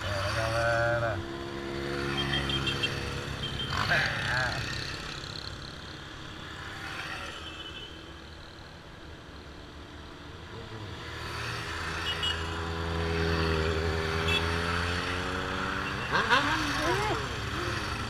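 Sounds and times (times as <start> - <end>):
motorcycle engines running: 0.0 - 7.1, 9.8 - 18.0.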